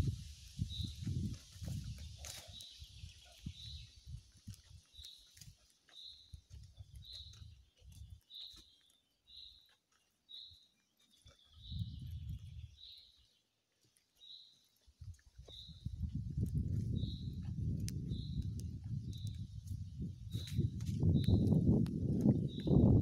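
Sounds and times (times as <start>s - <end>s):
footsteps on dirt path: 0.6s - 23.0s.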